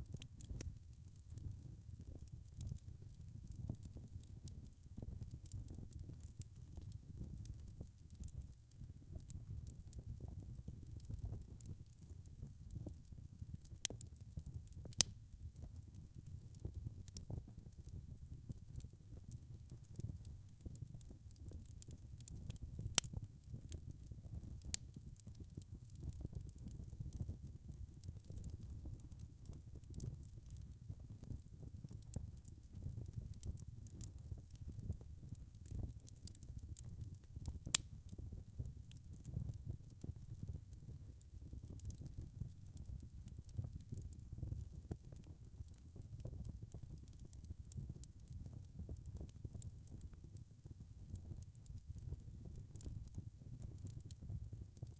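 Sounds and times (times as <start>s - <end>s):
wood fire crackling: 0.1s - 54.9s.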